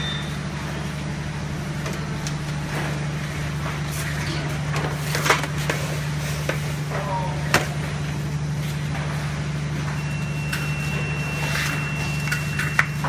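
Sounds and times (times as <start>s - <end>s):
industrial oven humming: 0.0s - 13.0s.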